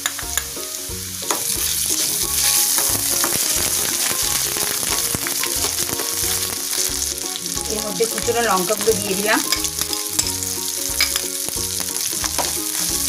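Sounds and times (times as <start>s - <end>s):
spatula scraping and tapping pan: 0.0s - 0.5s, 1.3s - 7.6s, 8.7s - 12.9s
onions sizzling in hot oil: 0.0s - 13.0s.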